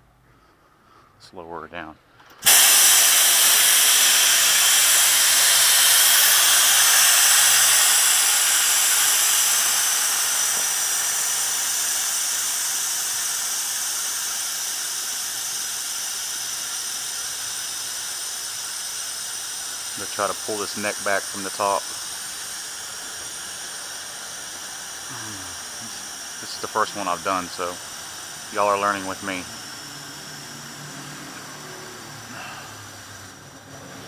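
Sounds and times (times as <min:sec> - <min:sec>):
vehicle lift hissing: 0:02.3 - 0:34.0.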